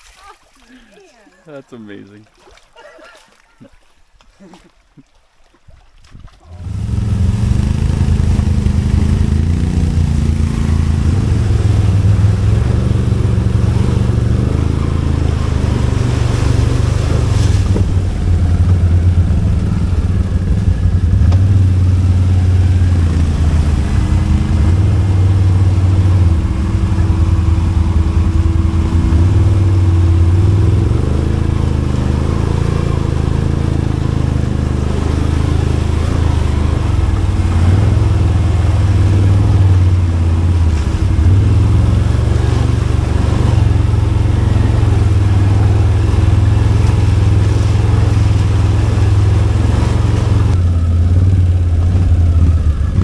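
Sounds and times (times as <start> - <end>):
atv engine running: 6.5 - 53.0.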